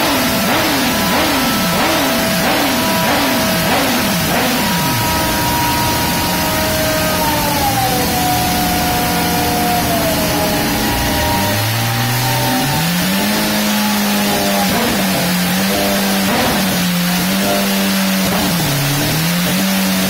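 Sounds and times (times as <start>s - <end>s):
dyno roller whine: 0.0s - 20.0s
motorcycle engine revving: 0.0s - 20.0s.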